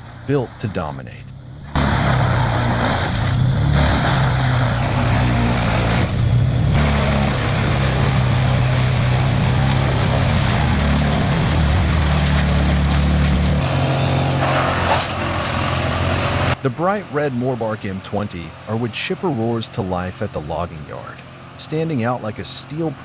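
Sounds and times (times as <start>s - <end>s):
wood chipper diesel engine running: 0.0s - 23.0s.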